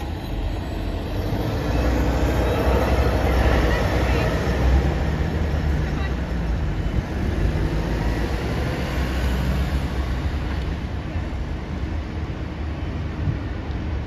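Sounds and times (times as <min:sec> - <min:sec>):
buses driving past: 0:00.0 - 0:14.0.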